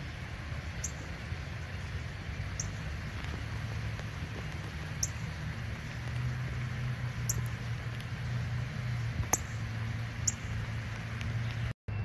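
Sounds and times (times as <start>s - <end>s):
engine rumble with hum: 0.0s - 12.0s.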